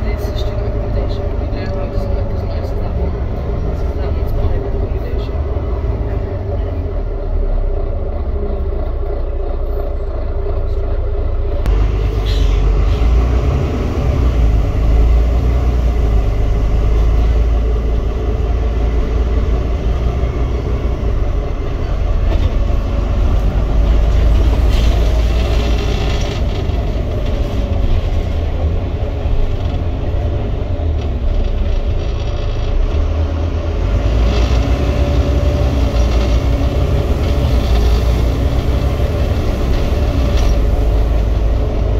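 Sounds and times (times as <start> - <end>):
bus engine rumble: 0.0 - 41.9
road noise: 0.0 - 41.9.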